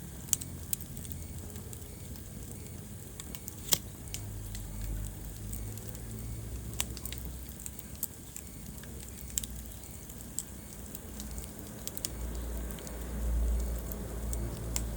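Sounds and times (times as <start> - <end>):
fire popping: 0.0 - 14.9
wood fire crackling: 0.0 - 14.9.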